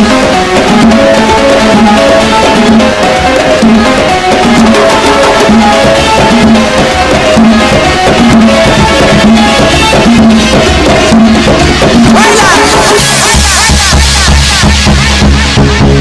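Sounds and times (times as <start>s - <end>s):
music with drums and percussion: 0.0s - 16.0s.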